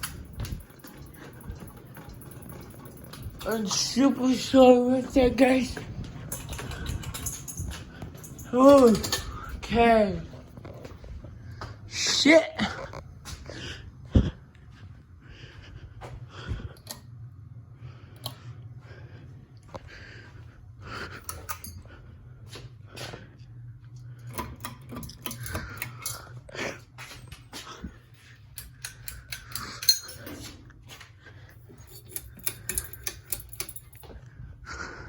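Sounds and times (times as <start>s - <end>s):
ceiling fans humming: 0.0s - 35.0s.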